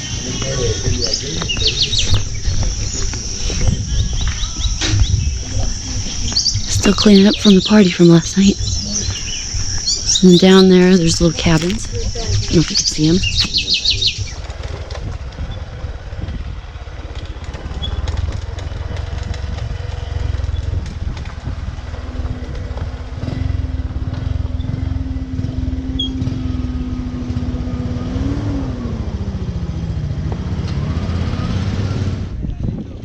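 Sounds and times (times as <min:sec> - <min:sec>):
motorbike engine running: 0:00.0 - 0:33.0
wind and road rumble: 0:00.0 - 0:33.0.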